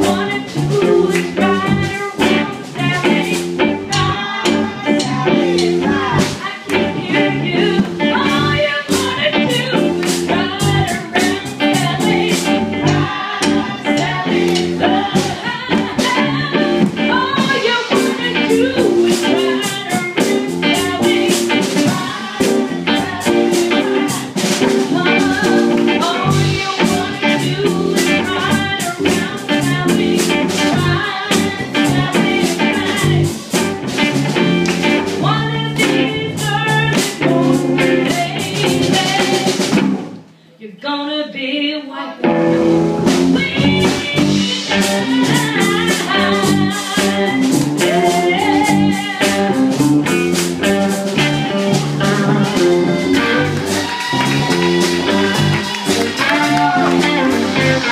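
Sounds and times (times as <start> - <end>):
woman singing into a microphone: 0.0 - 33.7, 34.9 - 39.8, 40.6 - 42.3, 43.0 - 49.8
drum kit: 0.0 - 40.4, 42.2 - 57.9
electric guitar: 0.0 - 40.5, 42.2 - 57.9.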